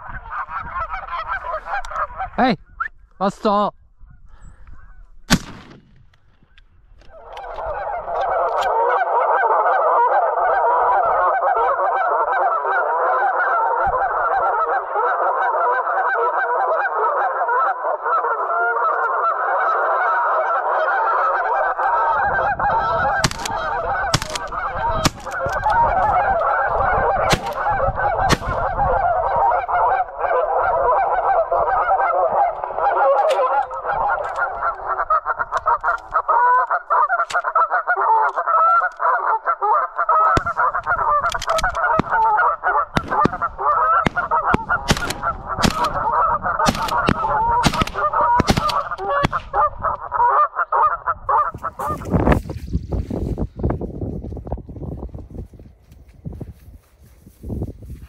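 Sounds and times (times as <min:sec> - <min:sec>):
geese honking: 0:00.0 - 0:03.6, 0:06.3 - 0:52.4.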